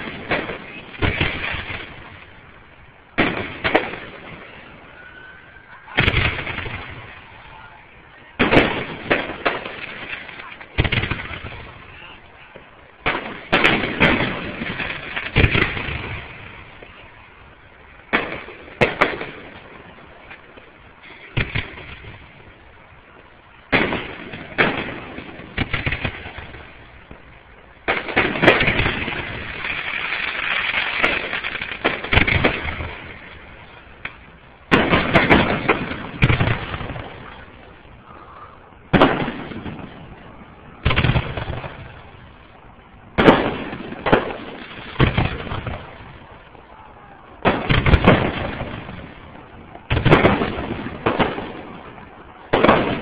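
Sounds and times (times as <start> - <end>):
fireworks bursting with rumble: 0.0 - 53.0.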